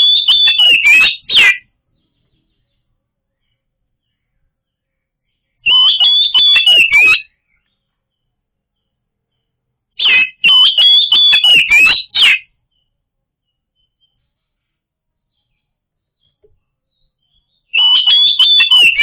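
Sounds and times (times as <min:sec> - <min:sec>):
magpie-robin singing: 0:00.0 - 0:14.4, 0:15.3 - 0:19.0.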